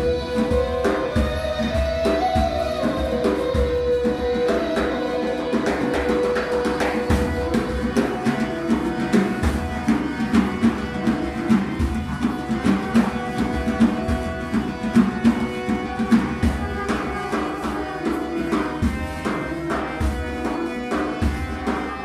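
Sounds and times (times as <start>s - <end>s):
flute holding long notes: 0.0s - 22.0s
hand drums beating: 0.0s - 22.0s.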